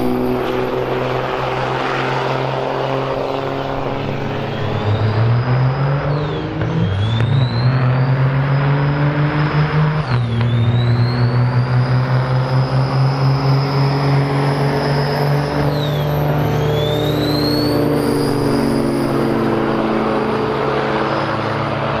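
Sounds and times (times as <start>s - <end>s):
diesel truck accelerating: 0.0s - 22.0s
turbo whistle: 3.2s - 21.6s.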